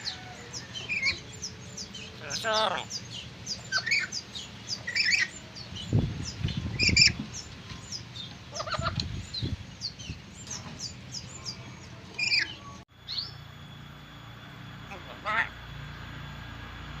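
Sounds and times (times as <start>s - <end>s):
birds chirping: 0.0s - 16.5s.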